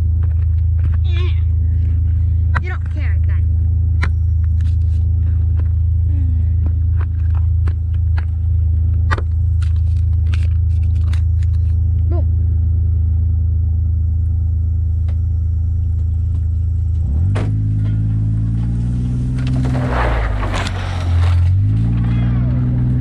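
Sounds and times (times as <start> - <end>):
atv engine idling and revving: 0.0 - 19.8, 20.9 - 23.0.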